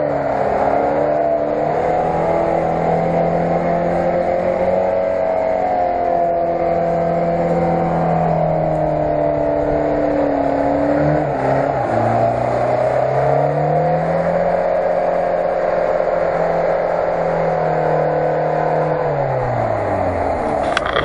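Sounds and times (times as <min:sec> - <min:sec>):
car engine under load: 0:00.0 - 0:21.0.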